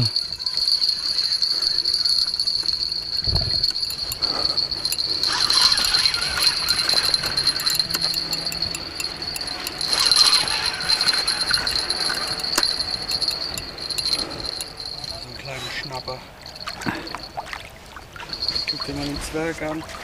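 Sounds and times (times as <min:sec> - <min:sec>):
fishing reel drag ticking: 0:00.0 - 0:17.4.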